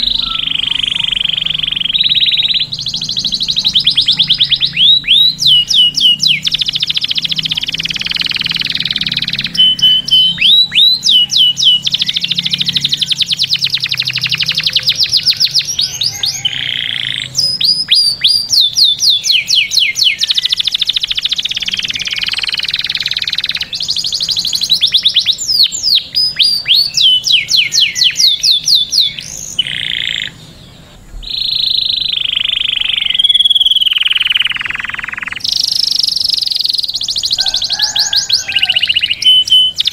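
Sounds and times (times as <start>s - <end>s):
canary singing with trills: 0.0s - 39.9s.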